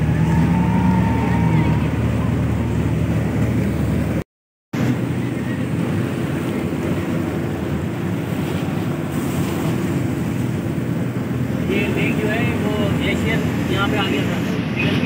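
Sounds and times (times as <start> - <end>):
motorboat engine humming: 0.0 - 4.2, 4.8 - 15.0
water rushing past hull: 0.0 - 4.2, 4.8 - 15.0.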